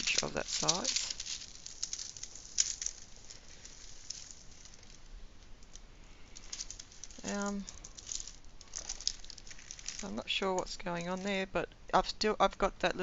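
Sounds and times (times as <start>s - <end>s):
plastic-covered canvas crackling: 0.0s - 11.6s.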